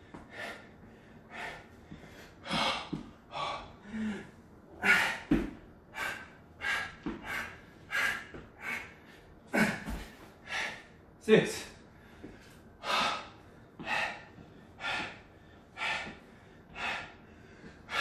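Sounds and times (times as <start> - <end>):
man breathing hard: 0.0 - 11.2, 11.8 - 18.0.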